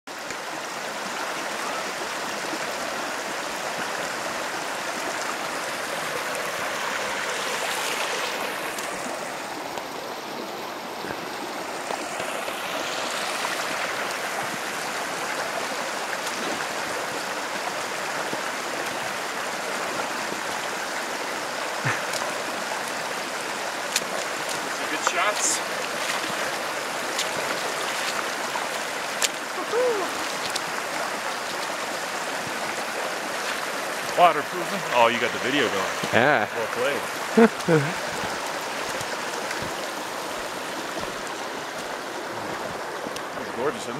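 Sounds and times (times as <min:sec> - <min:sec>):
water rushing over stones: 0:00.1 - 0:43.9.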